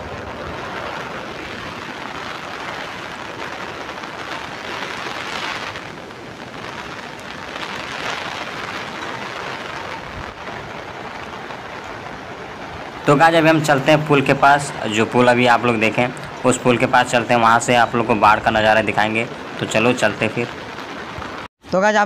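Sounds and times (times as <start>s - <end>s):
heavy rain hiss: 0.0s - 21.5s
river rushing in flood: 0.0s - 21.5s.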